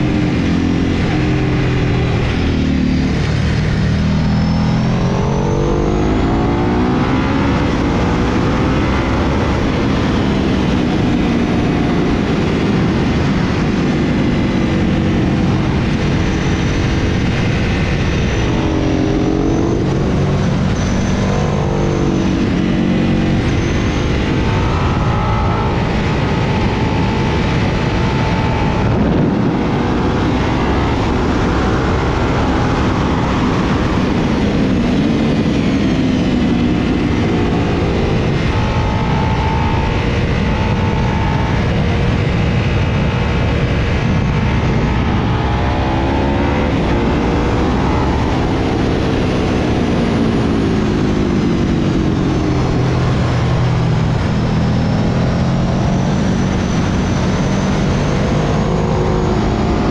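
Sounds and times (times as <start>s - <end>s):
motorcycle engine revving: 0.0s - 59.9s
wind on microphone: 0.0s - 59.9s.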